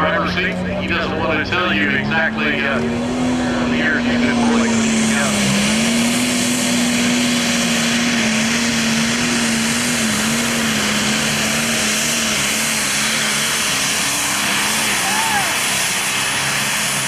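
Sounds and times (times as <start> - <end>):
diesel engine at full throttle: 0.0 - 17.0.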